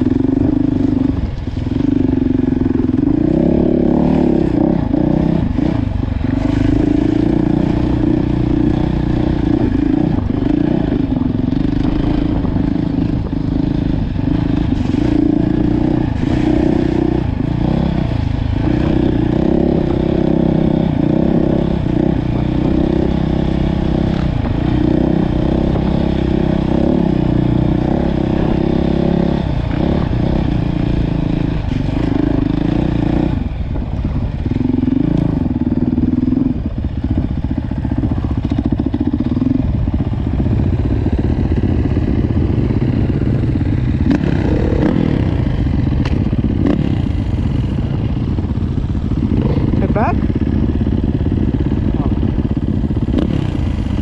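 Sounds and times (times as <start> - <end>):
dirt bike engine revving: 0.0 - 33.6, 34.2 - 54.0.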